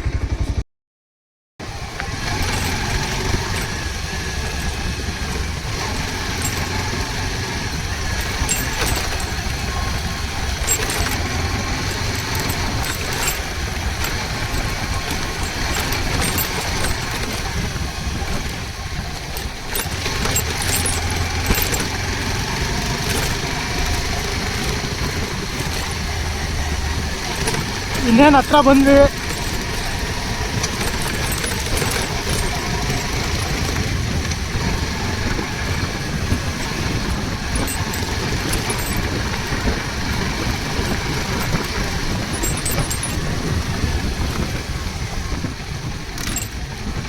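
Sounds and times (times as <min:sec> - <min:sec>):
motorcycle engine hum: 0:01.6 - 0:47.0
road noise: 0:01.6 - 0:47.0.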